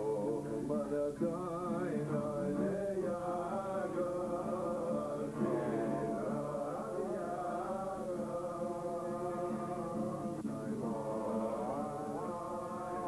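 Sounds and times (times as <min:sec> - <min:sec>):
acoustic guitar: 0:00.0 - 0:13.0
men singing in unison: 0:00.0 - 0:13.0.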